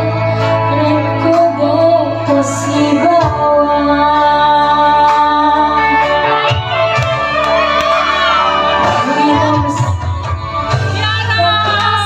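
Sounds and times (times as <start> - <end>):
woman singing: 0.0 - 6.6, 8.8 - 12.0
bass line: 0.0 - 12.0.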